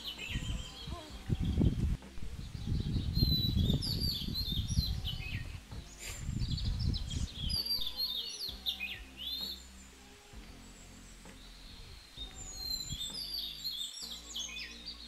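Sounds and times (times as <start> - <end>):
low rumbling on microphone: 0.0 - 13.6
songbirds singing: 0.0 - 15.0.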